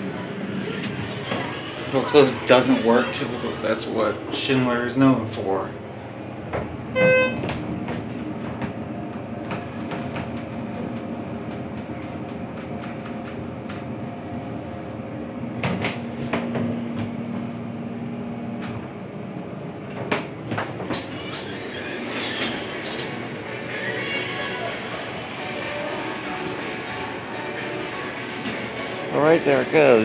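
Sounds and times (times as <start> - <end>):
elevator running rumble: 0.0 - 30.0.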